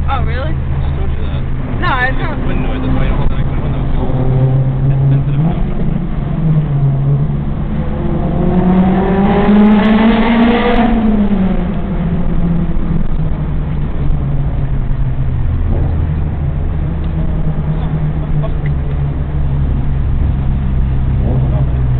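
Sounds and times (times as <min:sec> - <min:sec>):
car engine revving in tunnel: 0:00.0 - 0:21.9.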